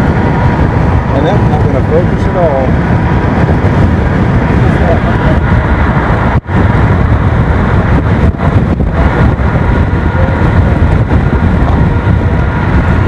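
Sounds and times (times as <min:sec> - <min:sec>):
car road and engine noise: 0:00.0 - 0:13.0
wind rumbling on microphone: 0:00.0 - 0:13.0.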